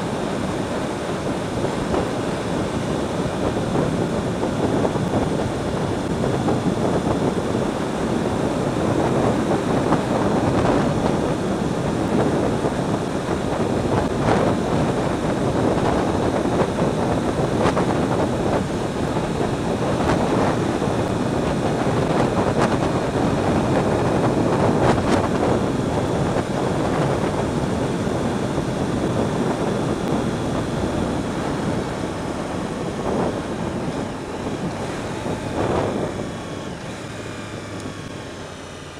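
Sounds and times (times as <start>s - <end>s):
motorcycle engine: 0.0s - 38.9s
wind rushing over microphone: 0.0s - 38.9s.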